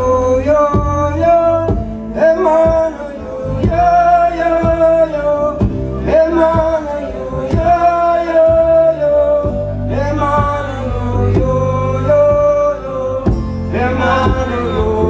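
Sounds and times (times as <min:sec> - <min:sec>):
acoustic guitar: 0:00.0 - 0:15.0
bass: 0:00.0 - 0:15.0
man singing into microphone: 0:00.0 - 0:15.0
steady beat: 0:00.6 - 0:15.0.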